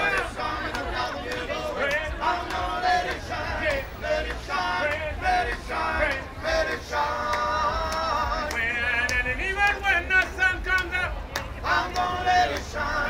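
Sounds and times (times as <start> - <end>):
vocal quartet singing in harmony: 0.0 - 13.0.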